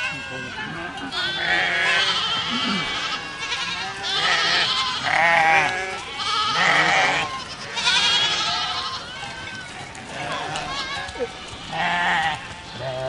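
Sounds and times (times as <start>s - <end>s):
goats bleating: 0.0s - 13.0s.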